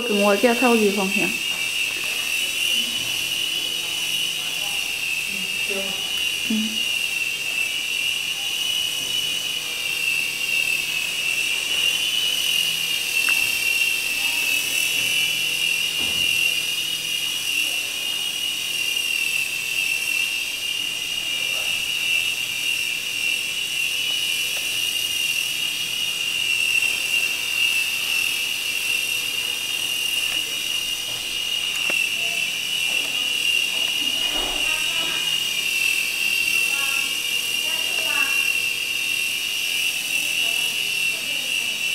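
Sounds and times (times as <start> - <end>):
toy helicopter motor whine: 0.0 - 41.9.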